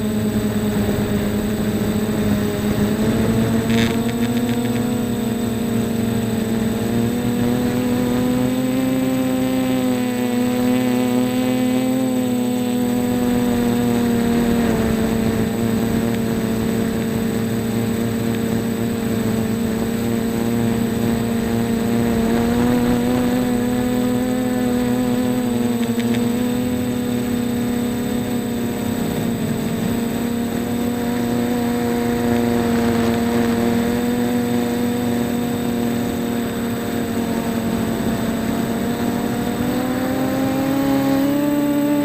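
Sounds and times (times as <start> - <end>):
drone motors buzzing whine: 0.0 - 42.0.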